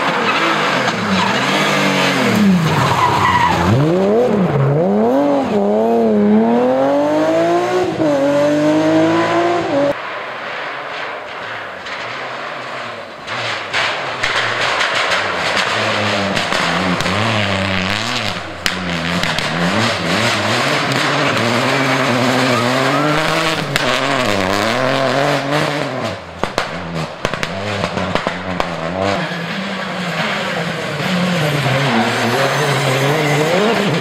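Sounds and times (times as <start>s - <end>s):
rally car engine revving: 0.0s - 10.0s, 11.3s - 34.0s.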